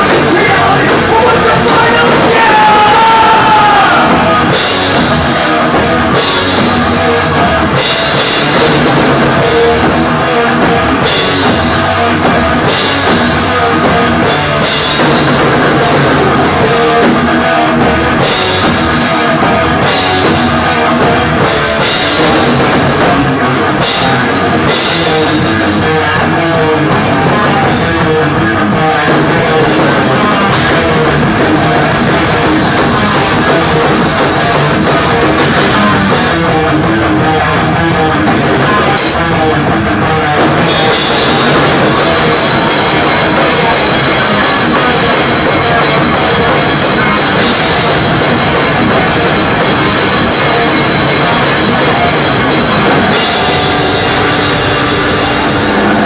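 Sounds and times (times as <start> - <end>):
drum kit with heavy cymbal accents: 0.0 - 56.0
electric guitars: 0.0 - 56.0
thrash metal band playing live: 0.0 - 56.0.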